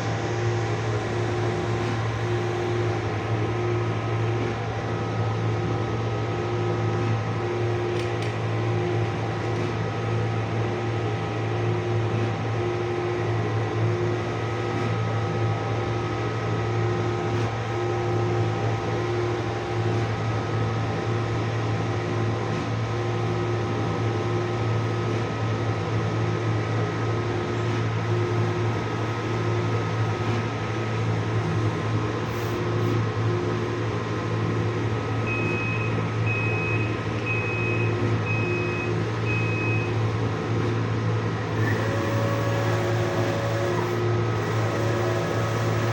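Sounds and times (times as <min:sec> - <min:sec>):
printing machine humming: 0:00.0 - 0:45.9.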